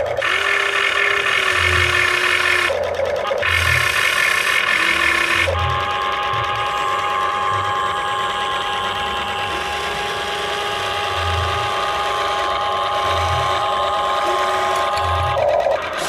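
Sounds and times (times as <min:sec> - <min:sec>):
toy gear motor whining: 0:00.0 - 0:16.0.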